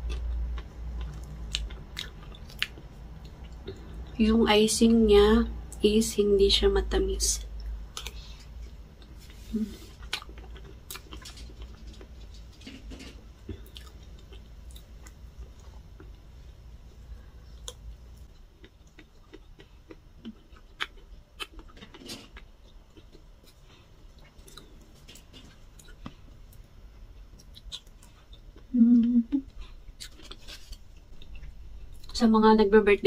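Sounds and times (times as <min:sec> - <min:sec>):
person chewing cake: 0:00.0 - 0:04.1, 0:07.6 - 0:12.4, 0:13.2 - 0:32.2.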